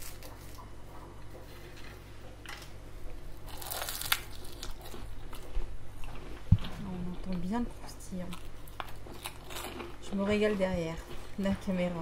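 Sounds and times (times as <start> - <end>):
person chewing crunchy pastry: 0.0 - 11.8.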